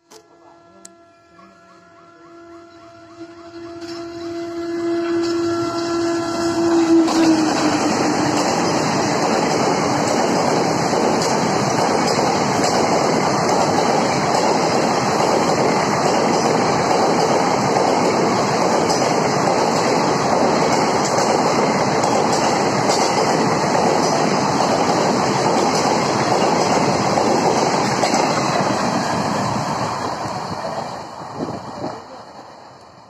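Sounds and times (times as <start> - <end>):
train wheels rushing on rails: 1.4 - 33.0.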